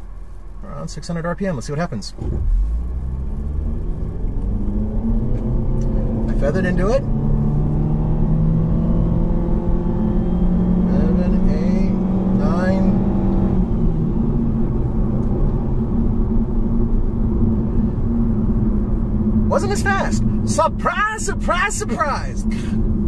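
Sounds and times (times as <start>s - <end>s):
car engine droning: 0.0s - 23.0s
road noise: 0.0s - 23.0s.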